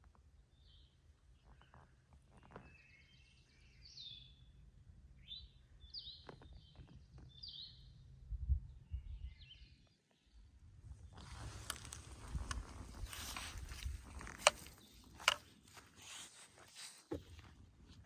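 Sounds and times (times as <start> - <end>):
songbirds singing: 0.4 - 12.2, 12.9 - 15.7.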